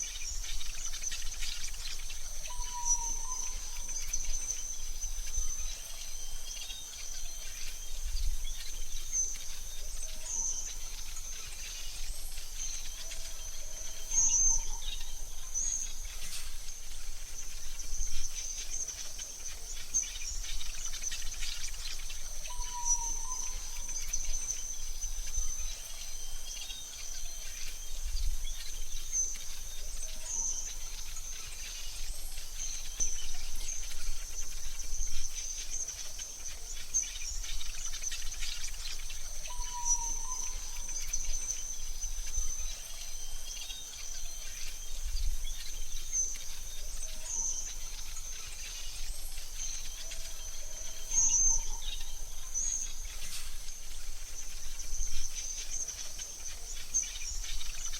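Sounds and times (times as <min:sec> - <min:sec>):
bird chirps: 0:00.0 - 0:57.9
high insect trill: 0:00.0 - 0:57.9
soft hiss: 0:00.0 - 0:57.9.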